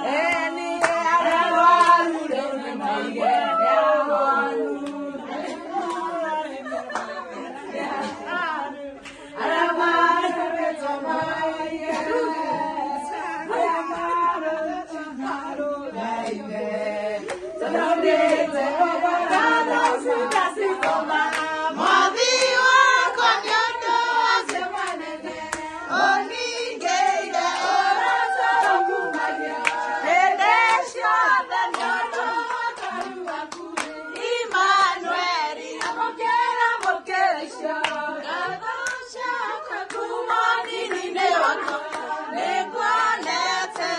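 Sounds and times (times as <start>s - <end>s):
women clapping along: 0.0s - 4.0s, 4.7s - 7.4s, 8.2s - 13.1s, 16.1s - 43.9s
women singing together: 0.0s - 43.9s.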